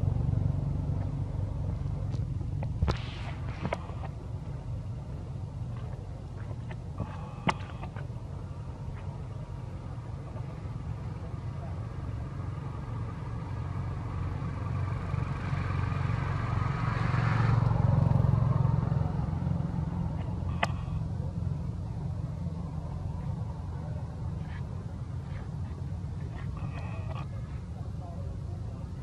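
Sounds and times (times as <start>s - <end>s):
motor vehicle passing: 0.0s - 29.0s.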